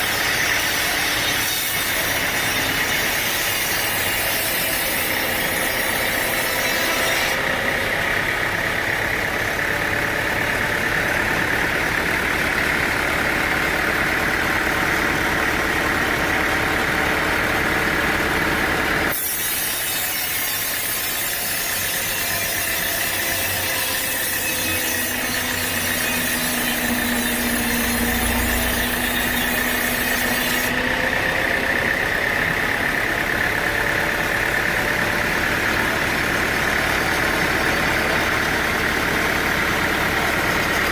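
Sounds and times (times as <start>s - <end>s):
sawmill saw cutting wood: 0.0s - 40.9s.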